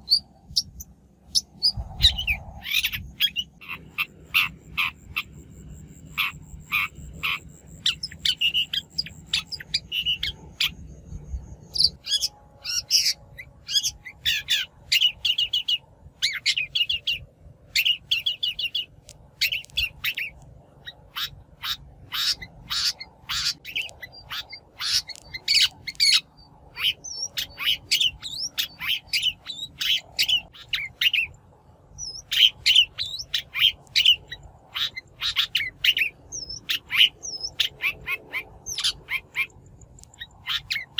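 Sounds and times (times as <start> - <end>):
shrike harsh chirps and squawks: 0.0 - 31.4, 32.0 - 40.9.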